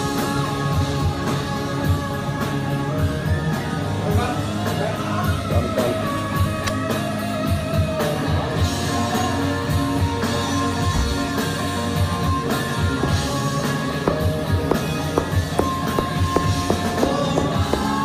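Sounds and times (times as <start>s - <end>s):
rock music with guitar: 0.0s - 18.0s.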